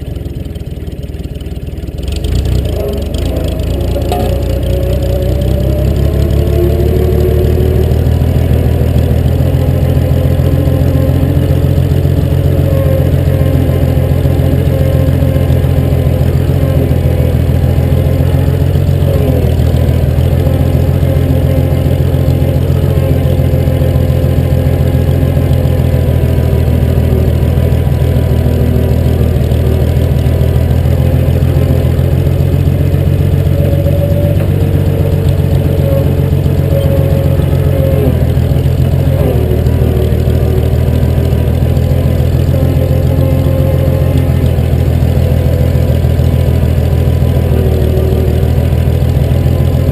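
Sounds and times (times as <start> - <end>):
tractor engine running steadily: 0.0 - 49.9.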